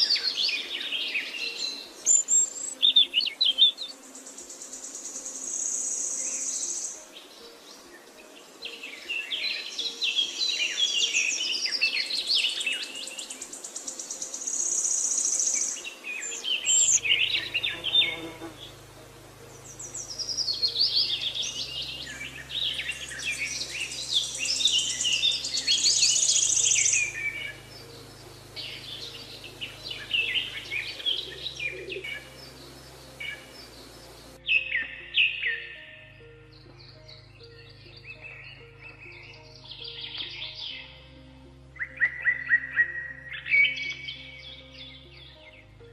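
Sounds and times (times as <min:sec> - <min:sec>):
birds chirping and trilling: 0:00.0 - 0:45.9.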